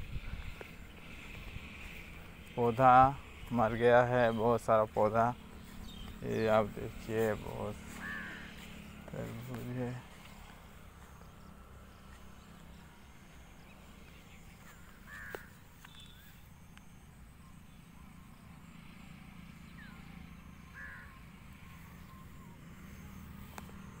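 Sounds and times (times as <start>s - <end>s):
bird calling: 0.0s - 24.0s
low steady rumble: 0.0s - 24.0s
faint chirps: 0.1s - 24.0s.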